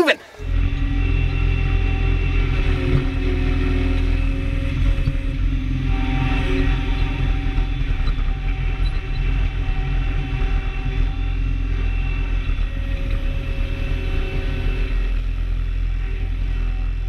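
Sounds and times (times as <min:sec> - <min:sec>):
loader engine rumbling: 0:00.0 - 0:17.0.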